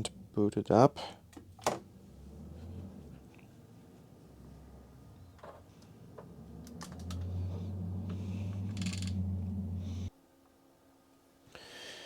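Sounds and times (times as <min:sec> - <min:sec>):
computer humming: 0:00.0 - 0:10.1.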